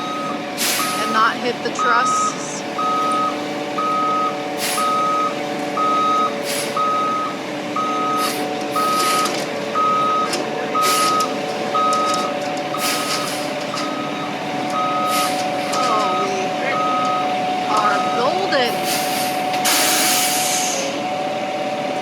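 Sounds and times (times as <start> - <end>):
reversing alarm beeping: 0.0 - 22.0
truck engine running: 0.0 - 22.0.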